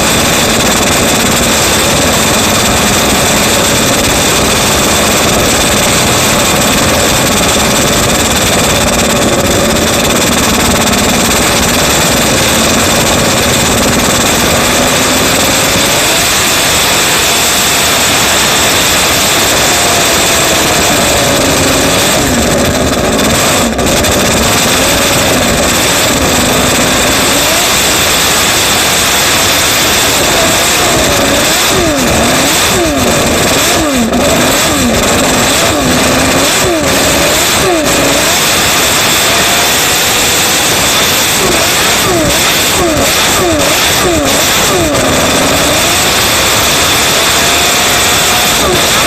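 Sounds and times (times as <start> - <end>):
racing car engine revving: 0.0 - 49.0.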